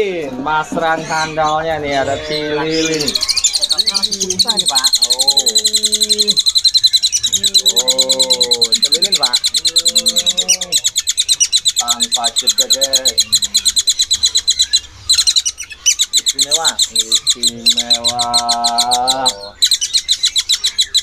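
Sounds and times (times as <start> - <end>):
birds chirping in a trill: 0.0 - 21.0.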